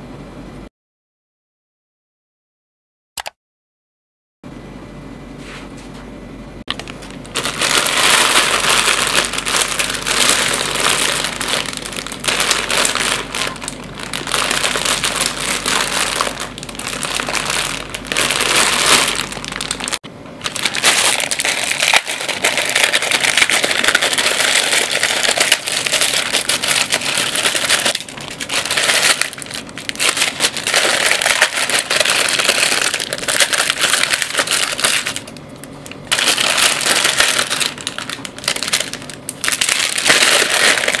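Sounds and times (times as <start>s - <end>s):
plastic packets crinkling: 6.7s - 41.0s
plastic packets tearing open: 6.7s - 41.0s.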